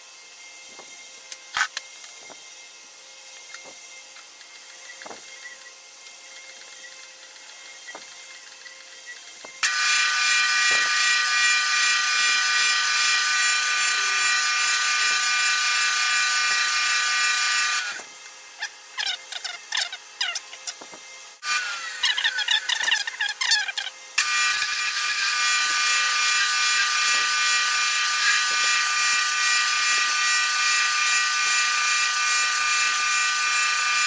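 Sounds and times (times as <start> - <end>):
wood lathe spinning: 4.2 - 34.0.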